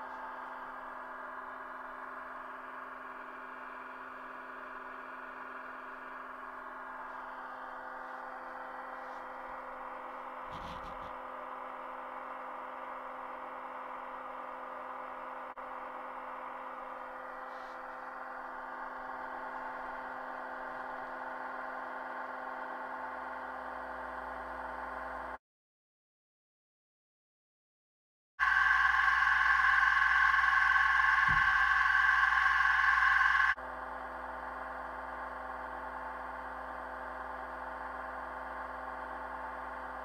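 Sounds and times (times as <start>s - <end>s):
droning diesel hum from speaker: 0.0s - 25.4s, 28.4s - 40.0s.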